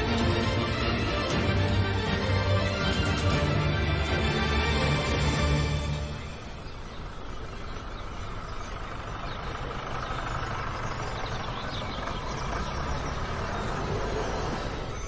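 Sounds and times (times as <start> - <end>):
minibus engine idling: 0.0 - 15.0.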